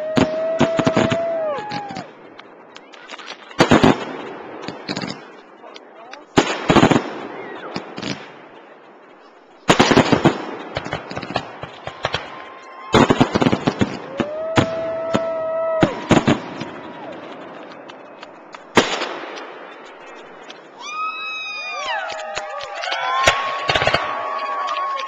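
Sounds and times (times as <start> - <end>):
fireworks crackling bangs: 0.0 - 8.8, 9.6 - 20.8, 22.1 - 25.0.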